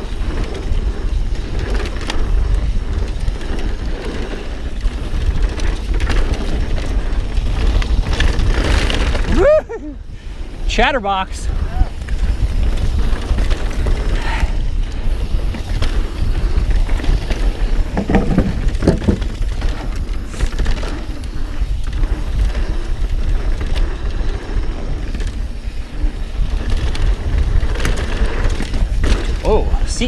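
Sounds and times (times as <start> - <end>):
tyres rolling over dirt and rock: 0.0 - 9.5, 11.9 - 30.0
bike knocking and clattering: 0.0 - 9.8, 11.6 - 30.0
wind rumble on microphone: 0.0 - 30.0.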